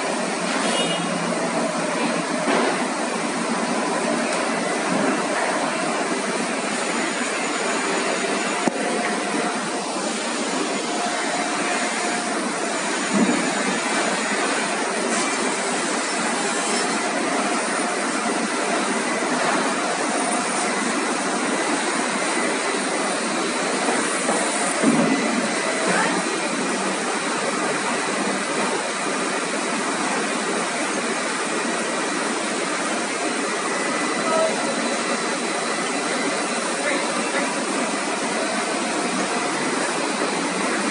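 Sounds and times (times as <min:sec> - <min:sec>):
machinery running: 0:00.0 - 0:40.9.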